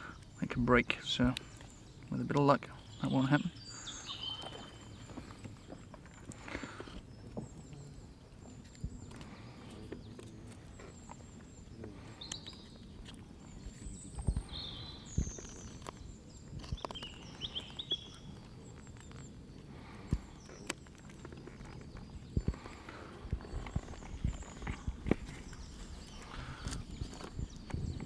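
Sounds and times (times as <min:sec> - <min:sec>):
bird chirps: 0:00.0 - 0:28.0.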